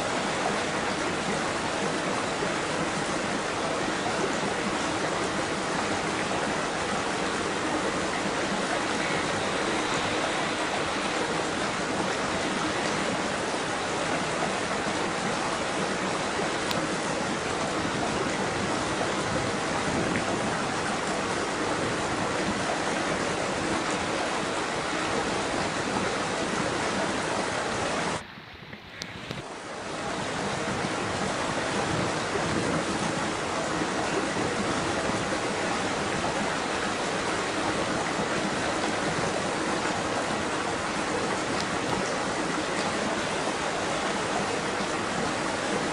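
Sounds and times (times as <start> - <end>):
rushing water: 0.0 - 45.9.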